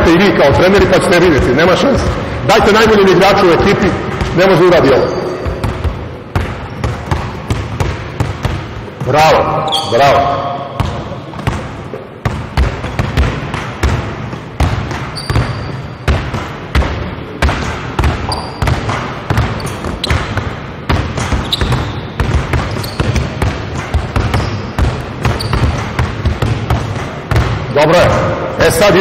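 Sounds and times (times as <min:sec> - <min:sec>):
basketballs bouncing on hardwood floor: 0:00.5 - 0:10.0, 0:10.6 - 0:28.2.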